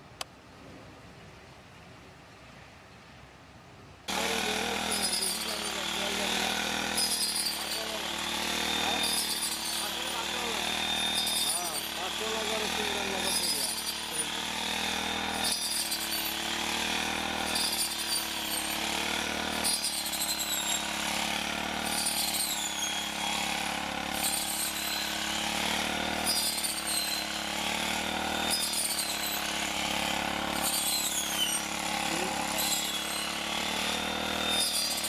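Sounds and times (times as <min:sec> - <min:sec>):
farm machine running: 0:04.1 - 0:35.0.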